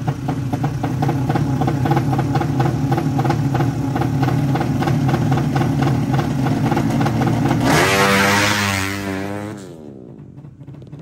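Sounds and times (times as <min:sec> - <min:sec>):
motorcycle engines idling: 0:00.0 - 0:11.0.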